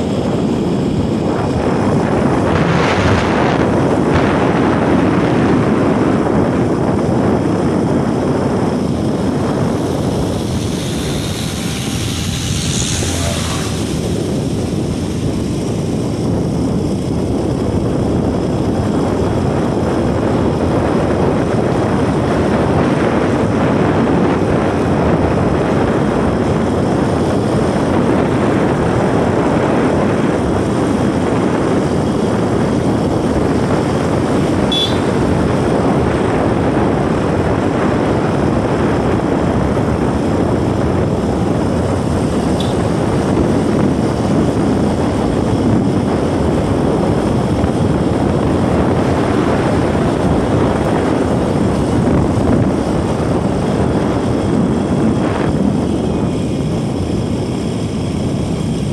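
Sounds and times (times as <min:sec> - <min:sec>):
motorcycle engine running: 0:00.0 - 0:58.9
wind rushing on microphone: 0:00.0 - 0:58.9.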